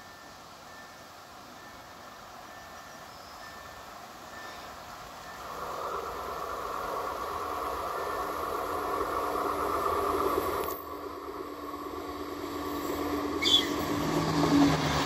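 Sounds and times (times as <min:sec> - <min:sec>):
diesel train approaching: 0:00.0 - 0:15.0.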